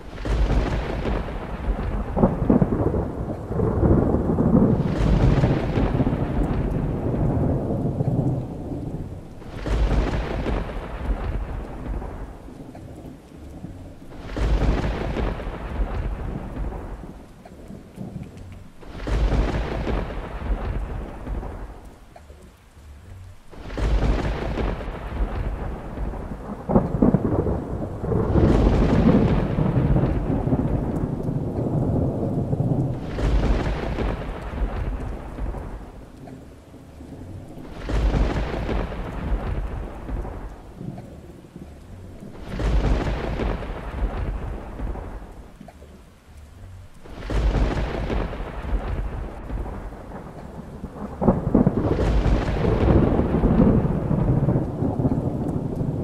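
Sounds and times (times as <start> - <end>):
steady rain hissing: 0.0 - 56.0
thunder rumbling: 0.0 - 56.0.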